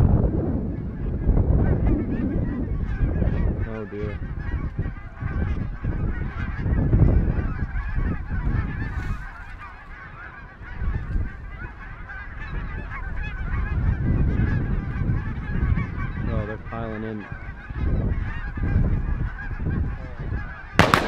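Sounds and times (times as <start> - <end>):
geese honking in flight: 0.7 - 21.0.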